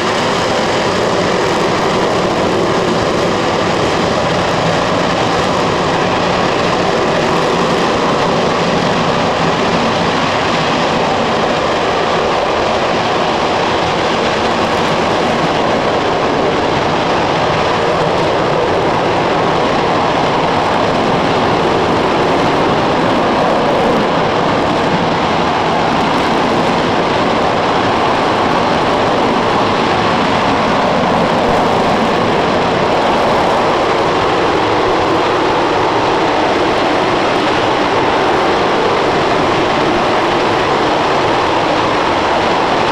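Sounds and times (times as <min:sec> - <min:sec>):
rocket engine roaring: 0:00.0 - 0:42.9.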